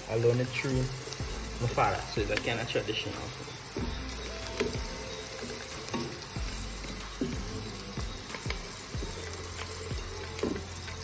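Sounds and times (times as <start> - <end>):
background music with beat: 0.0 - 11.0
food sizzling in hot oil: 0.0 - 11.0.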